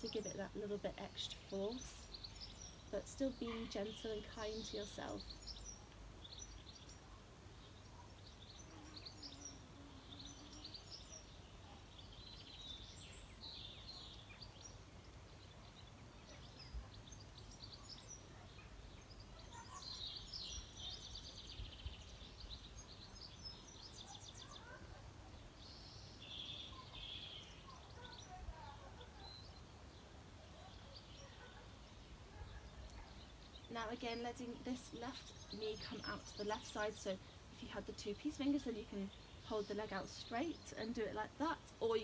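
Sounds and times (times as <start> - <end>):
faint birdsong: 0.0 - 42.0.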